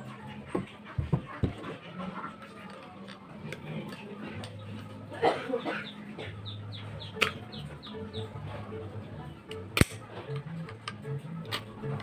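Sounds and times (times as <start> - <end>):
chicken clucking: 0.0 - 12.0.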